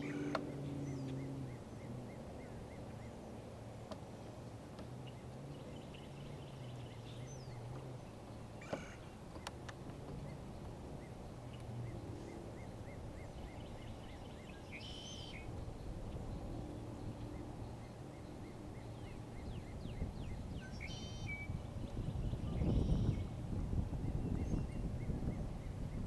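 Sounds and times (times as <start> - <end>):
small birds chirping: 0.0 - 4.1, 4.8 - 26.0
low outdoor rumble: 0.0 - 26.0.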